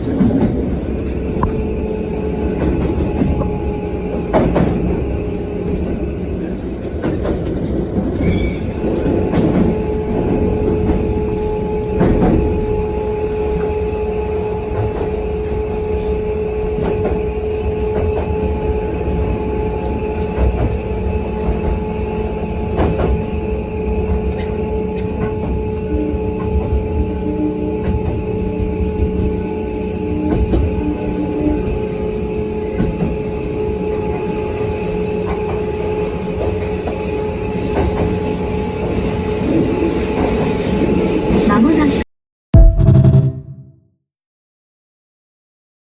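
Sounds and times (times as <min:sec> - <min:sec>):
train motor hum: 0:00.0 - 0:39.3
train wheels rumbling on track: 0:00.0 - 0:42.0.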